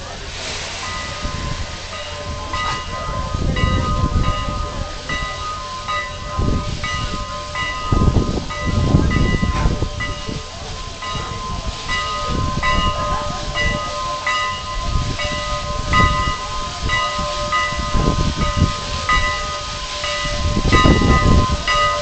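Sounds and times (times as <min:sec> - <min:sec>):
low rumble: 0:00.0 - 0:22.0
steam locomotive bell ringing: 0:00.0 - 0:22.0.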